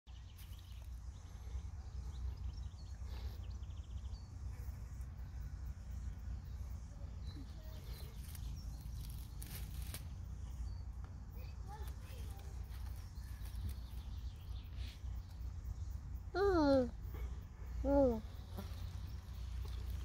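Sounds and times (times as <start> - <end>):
faint bird chirps: 0.1 - 20.0
steady low rumble: 0.1 - 20.0.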